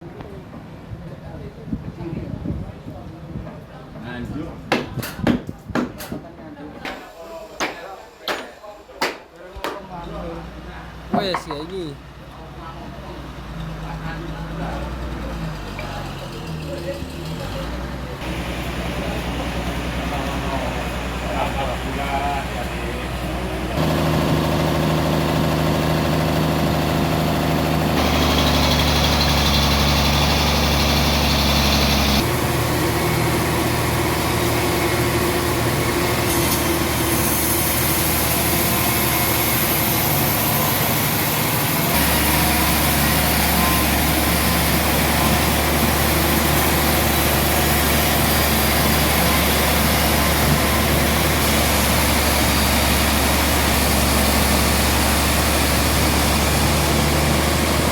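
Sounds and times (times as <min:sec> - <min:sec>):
sawmill machinery humming: 0:06.8 - 0:57.9.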